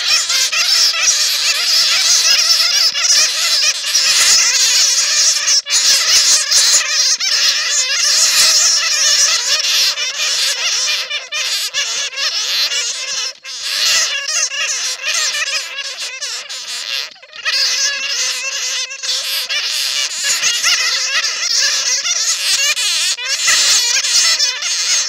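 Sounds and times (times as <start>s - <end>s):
bats squeaking and chattering: 0.0s - 25.0s.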